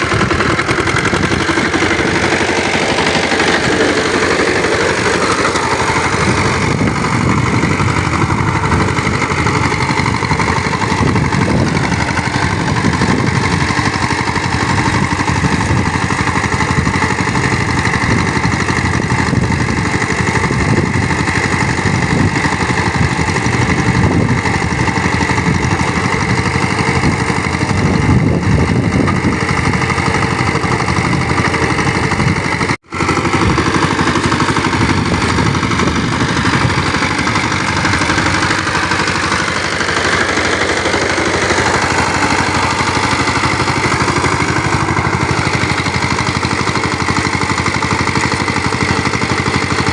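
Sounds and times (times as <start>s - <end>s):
tiller engine running under load: 0.0s - 49.9s.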